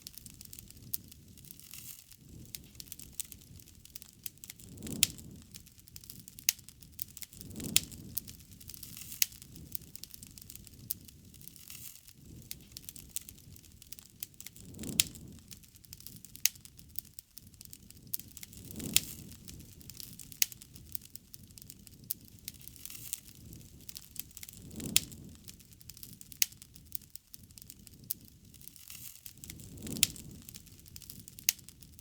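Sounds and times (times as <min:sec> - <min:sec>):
wood bonfire crackling: 0:00.0 - 0:32.0.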